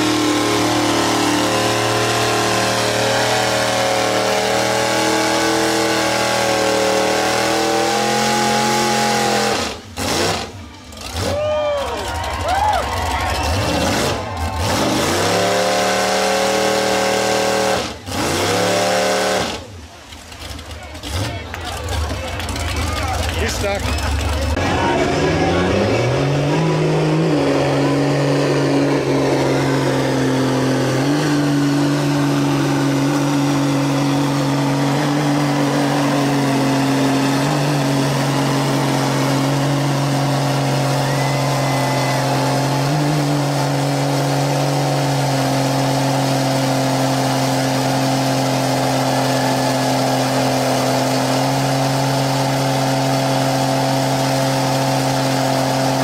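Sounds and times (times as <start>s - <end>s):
truck engine revving high: 0.0s - 56.0s.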